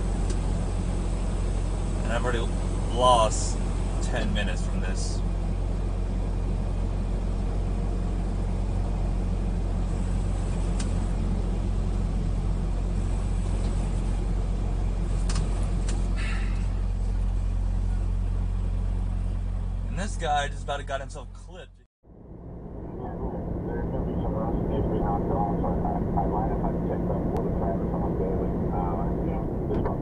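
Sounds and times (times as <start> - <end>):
truck engine and road noise: 0.0 - 30.0.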